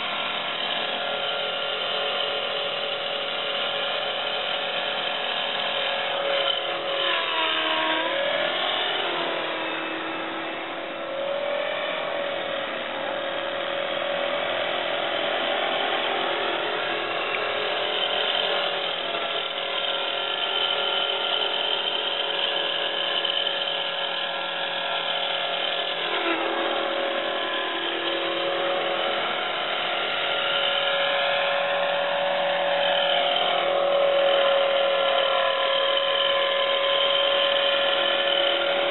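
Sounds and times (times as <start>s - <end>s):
rc helicopter motor whine: 0.0s - 38.9s.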